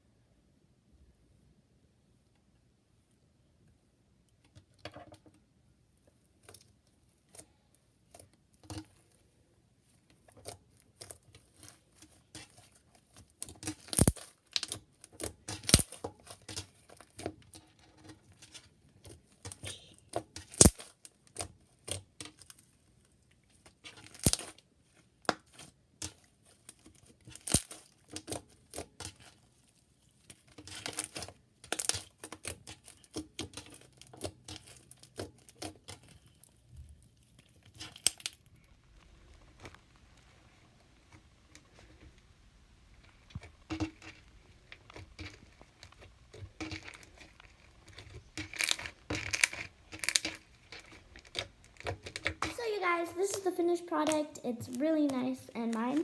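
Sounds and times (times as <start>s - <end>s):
slime being kneaded by hand: 9.8s - 56.0s.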